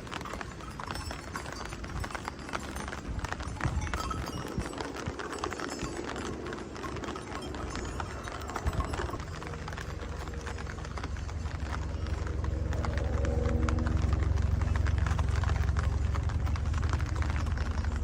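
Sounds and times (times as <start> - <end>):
rain drips and taps: 0.0 - 18.0
steady low rumble: 0.0 - 18.0.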